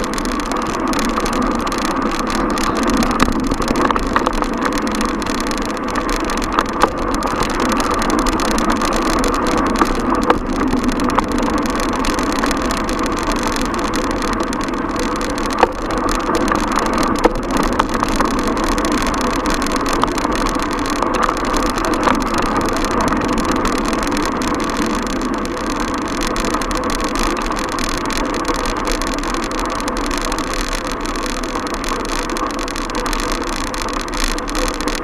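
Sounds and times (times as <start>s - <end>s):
sharp clicks: 0.0s - 35.0s
street traffic noise: 0.0s - 35.0s.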